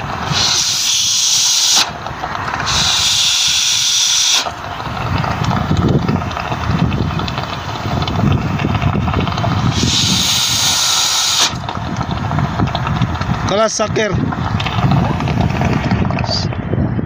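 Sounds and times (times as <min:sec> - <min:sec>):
gas hissing from a pipe: 0:00.0 - 0:16.5.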